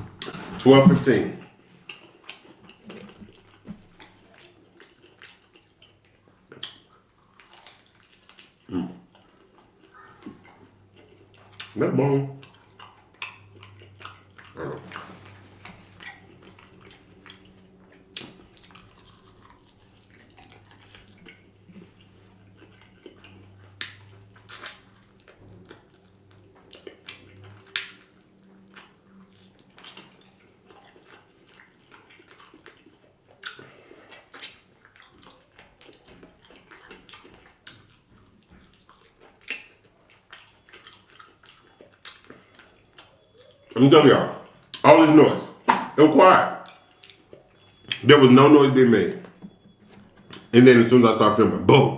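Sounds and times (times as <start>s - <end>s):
chewing and wet smacks: 0.0s - 51.8s.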